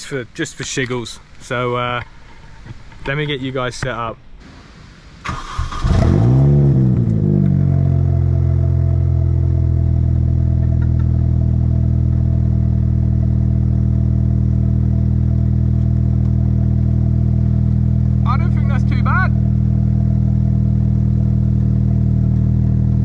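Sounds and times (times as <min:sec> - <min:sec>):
car engine starting and idling: 0:04.4 - 0:23.0.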